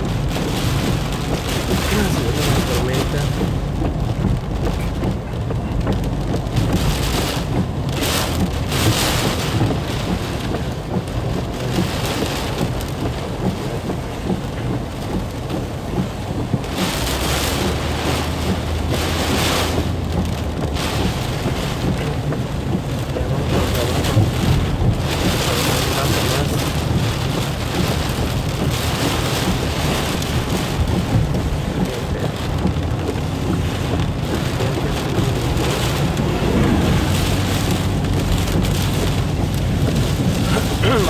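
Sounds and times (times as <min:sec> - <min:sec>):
heavy rain on car roof: 0:00.0 - 0:41.0
low rumble: 0:00.0 - 0:41.0.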